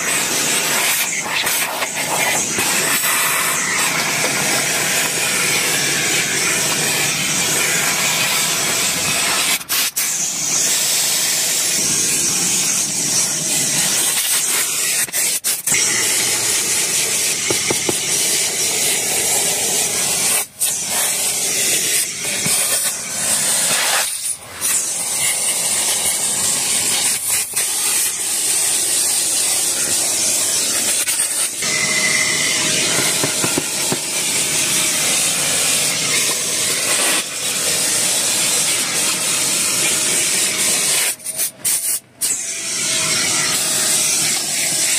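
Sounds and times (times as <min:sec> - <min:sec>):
vacuum cleaner suction hiss: 0:00.0 - 0:44.9.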